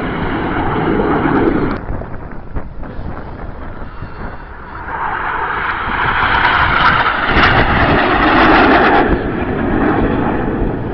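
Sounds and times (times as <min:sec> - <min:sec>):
jets roaring past: 0:00.0 - 0:10.9.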